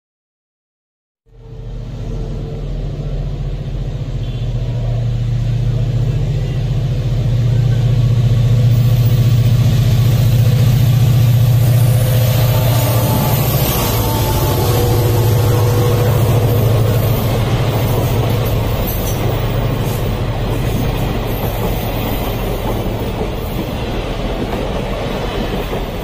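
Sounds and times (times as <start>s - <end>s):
diesel locomotive engine: 1.3s - 26.0s
wheels hissing on rail: 1.4s - 26.0s.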